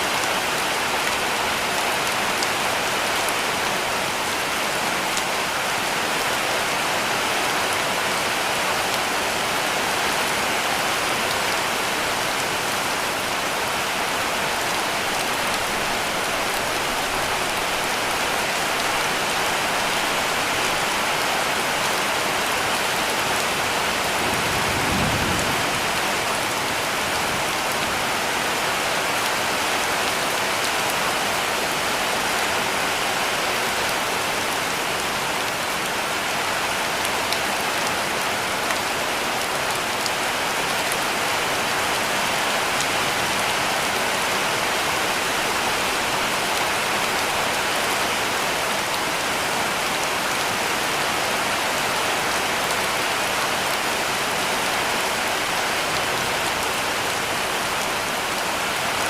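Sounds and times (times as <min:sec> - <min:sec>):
heavy rain on roof: 0:00.0 - 0:59.0.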